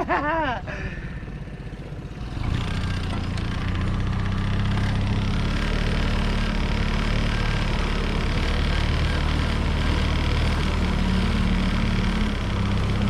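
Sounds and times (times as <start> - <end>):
small boat motor droning: 0.0 - 13.0.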